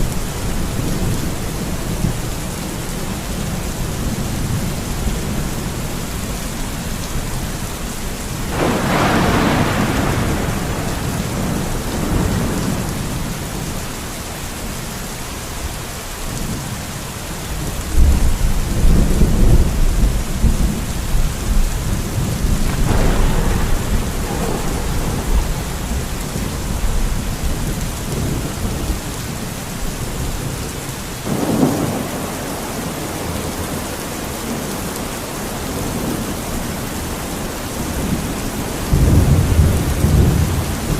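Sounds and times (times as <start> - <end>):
thunder rumbling: 0.0 - 14.6, 17.6 - 34.8, 35.6 - 40.9
steady rain: 0.0 - 40.9.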